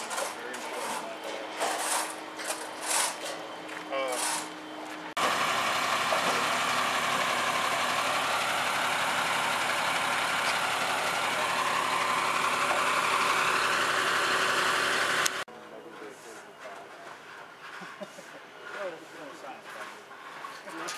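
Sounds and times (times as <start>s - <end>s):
engine running steadily: 0.0s - 20.8s.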